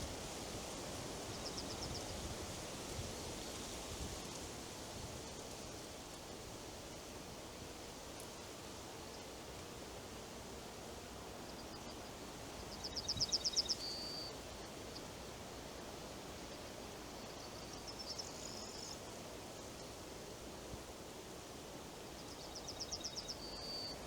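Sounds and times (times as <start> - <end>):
wind through trees: 0.0 - 24.0.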